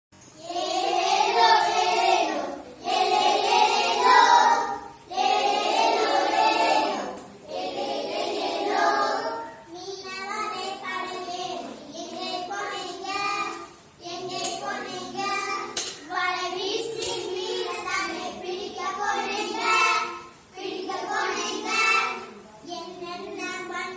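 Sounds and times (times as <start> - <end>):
children singing together: 0.4 - 23.9.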